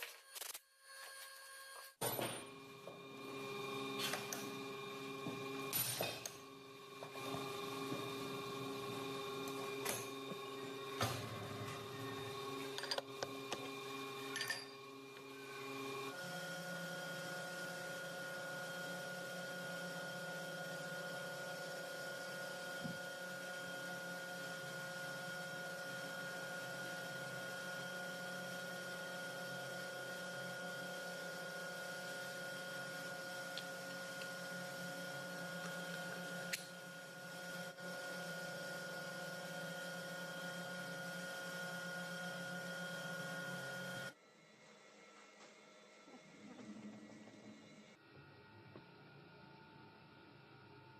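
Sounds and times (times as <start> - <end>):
machine tool humming and whining: 0.0 - 50.9.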